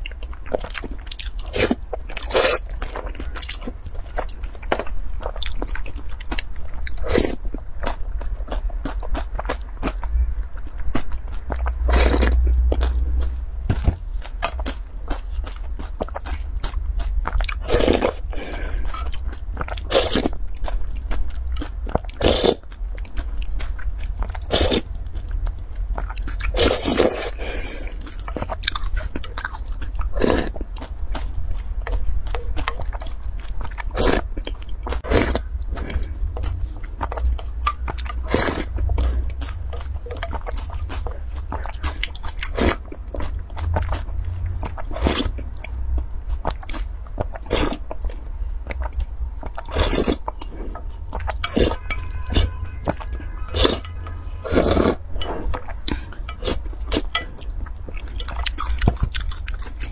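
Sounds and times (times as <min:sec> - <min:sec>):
slurping chewing and gulping: 0:00.0 - 0:13.4, 0:14.1 - 0:59.9
steady low hum: 0:00.0 - 0:59.9.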